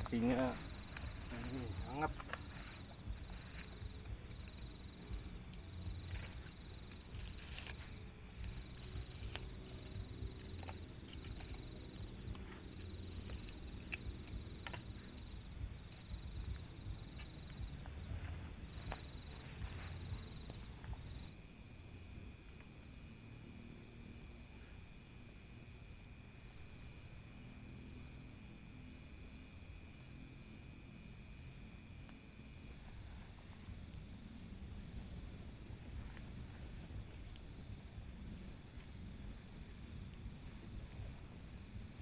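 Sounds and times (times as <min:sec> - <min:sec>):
crickets chirping: 0:00.0 - 0:42.0
high-pitched insect drone: 0:00.0 - 0:42.0.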